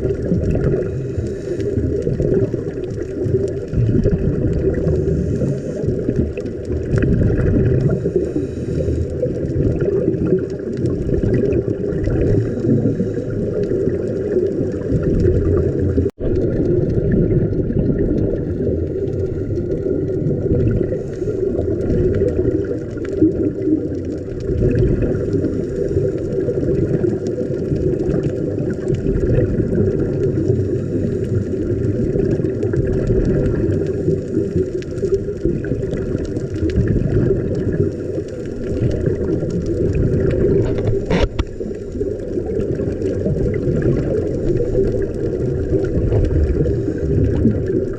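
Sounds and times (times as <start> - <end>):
muffled underwater rumble: 0.0 - 47.9
underwater bubbling: 0.0 - 47.9.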